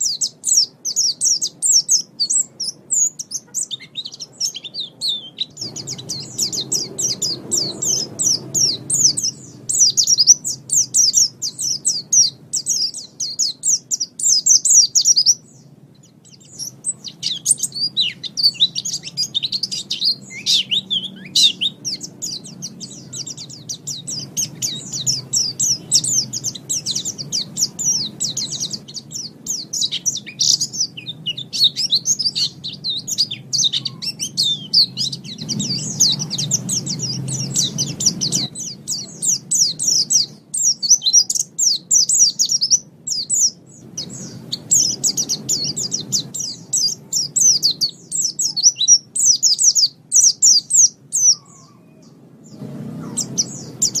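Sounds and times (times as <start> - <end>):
bird twittering chirps: 0.0 - 54.0.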